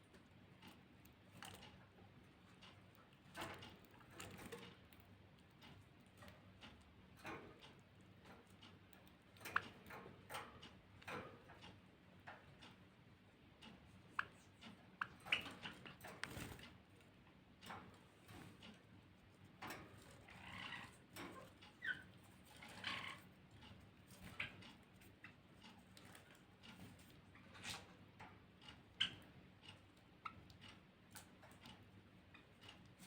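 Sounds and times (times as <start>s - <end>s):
soft ticking and tapping: 0.0s - 33.0s.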